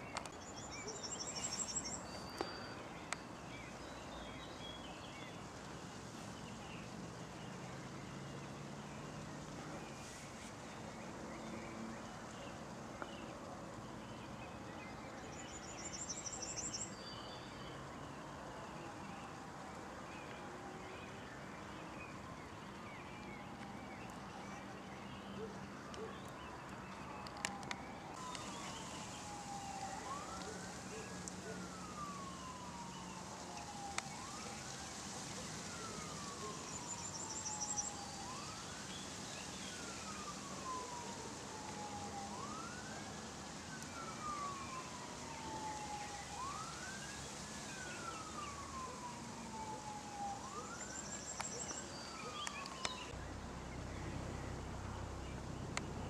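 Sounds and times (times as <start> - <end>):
small birds chirping: 0.0 - 19.4, 20.2 - 56.0.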